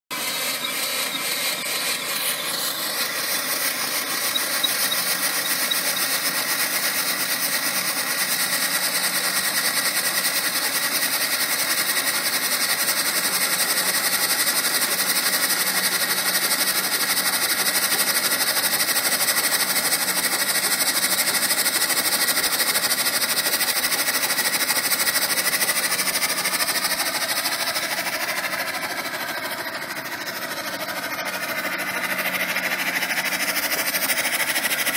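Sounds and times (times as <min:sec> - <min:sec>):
steam engine running: 0:00.1 - 0:34.9.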